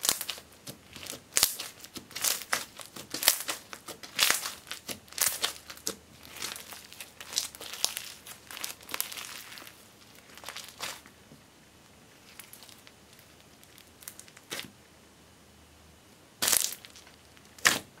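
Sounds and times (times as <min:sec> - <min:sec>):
slime crackling and squishing: 0:00.0 - 0:11.2, 0:12.1 - 0:14.7, 0:16.4 - 0:18.0.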